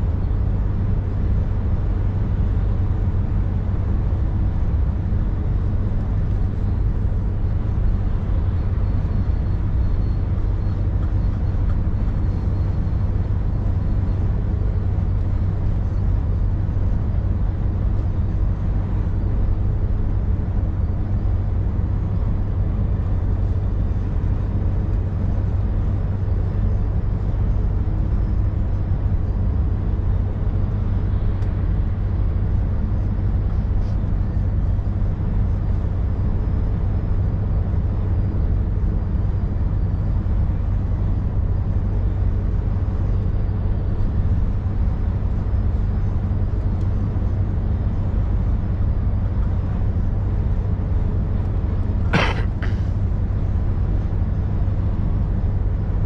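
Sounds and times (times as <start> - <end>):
diesel truck engine drone: 0.0 - 56.0.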